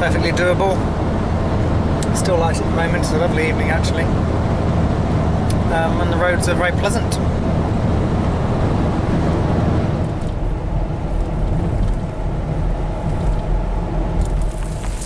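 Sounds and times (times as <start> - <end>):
van engine and tyre noise: 0.0 - 15.0.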